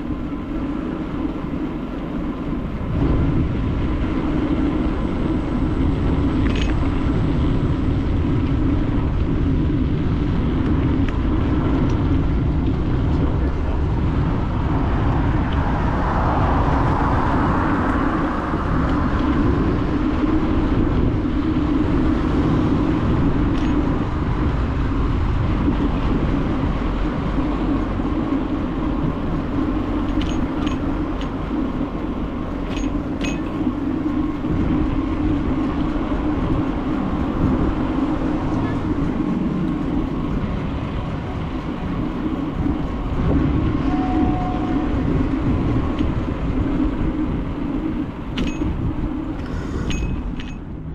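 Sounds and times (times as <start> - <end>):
bicycle rolling noise: 0.0 - 50.9
wind rumble: 0.0 - 50.9.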